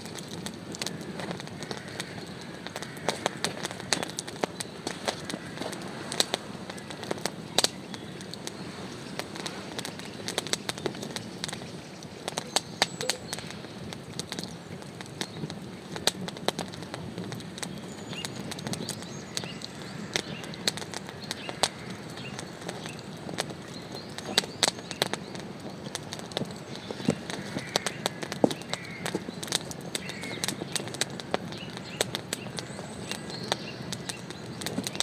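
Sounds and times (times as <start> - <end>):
sharp clicks and crackles: 0.0 - 35.0.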